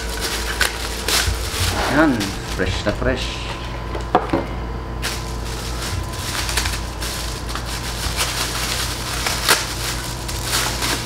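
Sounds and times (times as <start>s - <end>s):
plastic bag crinkling: 0.0s - 3.7s, 5.0s - 11.0s
low electrical hum: 0.0s - 11.0s.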